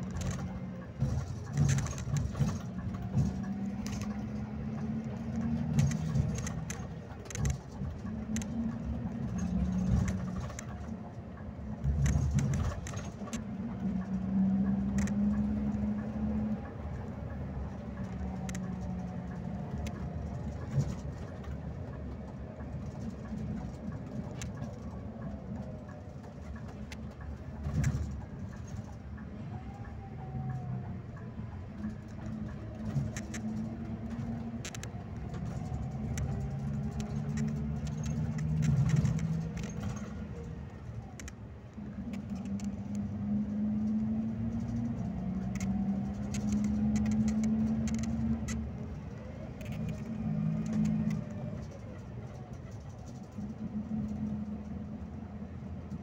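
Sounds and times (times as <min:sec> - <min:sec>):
body rattle clicks and knocks: 0:00.0 - 0:56.0
coach engine and road drone: 0:00.0 - 0:56.0.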